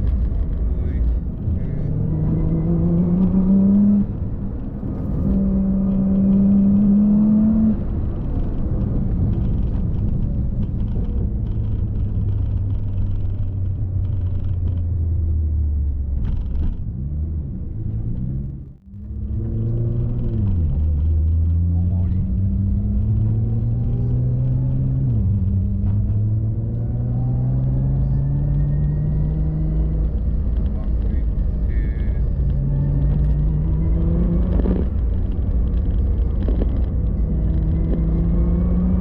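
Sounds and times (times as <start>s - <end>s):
car engine accelerating: 0.0s - 39.0s
road noise: 0.0s - 39.0s.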